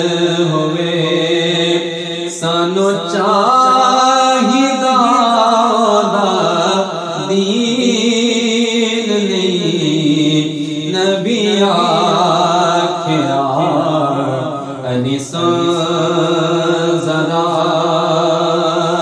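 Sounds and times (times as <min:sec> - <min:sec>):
man singing: 0:00.0 - 0:19.0.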